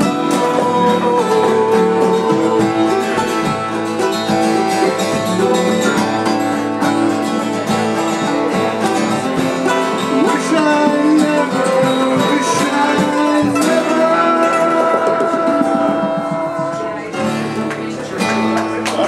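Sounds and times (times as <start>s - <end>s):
acoustic guitar strumming: 0.0s - 19.0s
mandolin playing: 0.0s - 19.0s.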